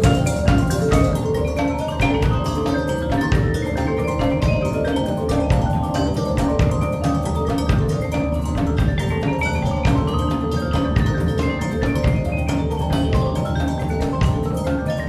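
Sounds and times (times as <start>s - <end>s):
marimbas and vibraphones playing: 0.0s - 15.0s.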